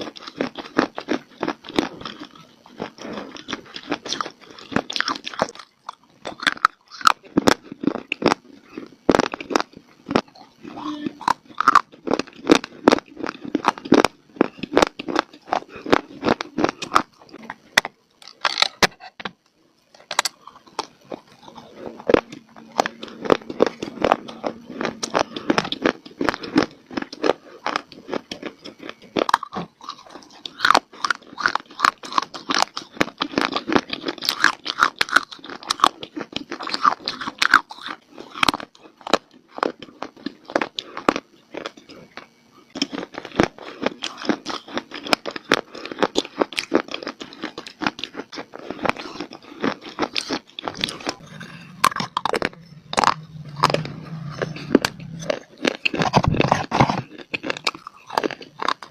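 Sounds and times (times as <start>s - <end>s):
person chewing crunchy clay: 0.0s - 58.9s.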